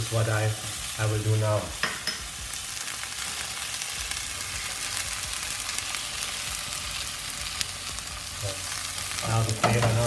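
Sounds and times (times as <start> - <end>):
steak sizzling in a hot pan: 0.0 - 10.0.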